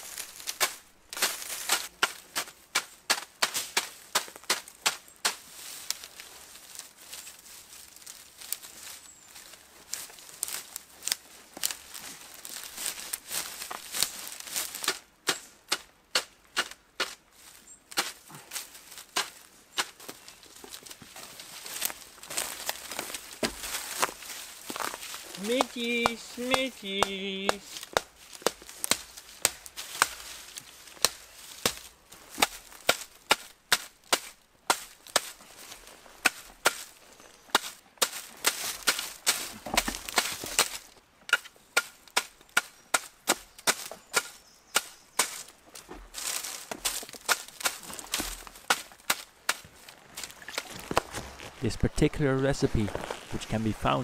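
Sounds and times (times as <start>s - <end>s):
dry reed thatch crackling: 0.0s - 54.0s.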